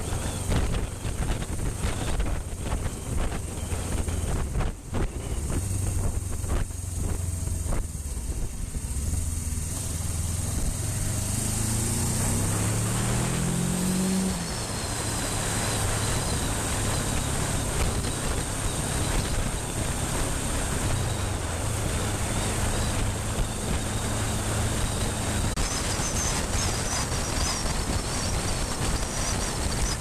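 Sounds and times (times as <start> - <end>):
wind buffeting microphone: 0.0 - 9.2, 14.1 - 30.0
motorcycle engine accelerating: 0.0 - 30.0.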